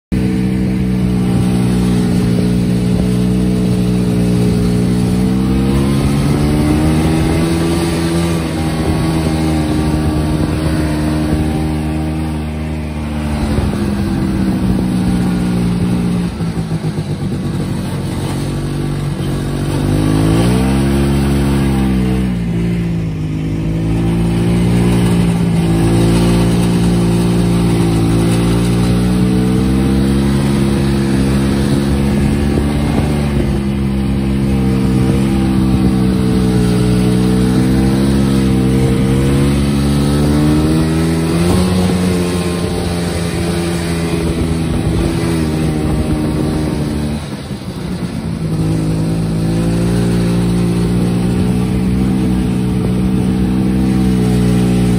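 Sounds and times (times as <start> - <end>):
snowmobile engine revving: 0.1 - 54.9.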